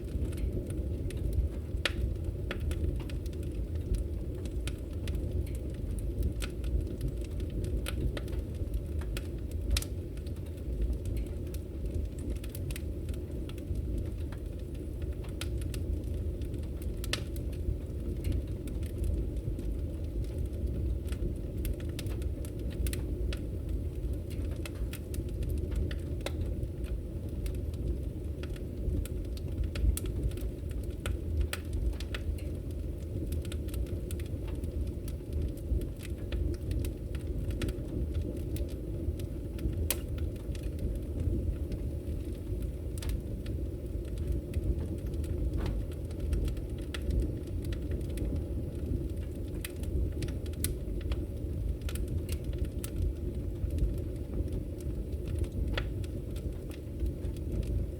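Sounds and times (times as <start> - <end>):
fire rumbling: 0.0 - 57.9
firewood crackling and popping: 0.0 - 57.9.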